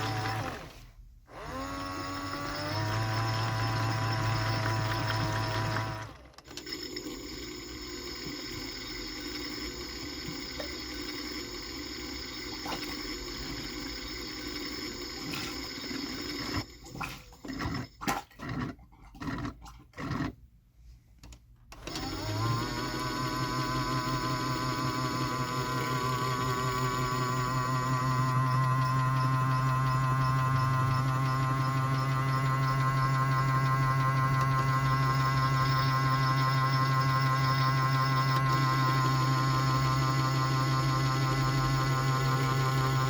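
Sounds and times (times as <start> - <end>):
washing machine motor hum: 0.0 - 20.3, 21.8 - 43.0.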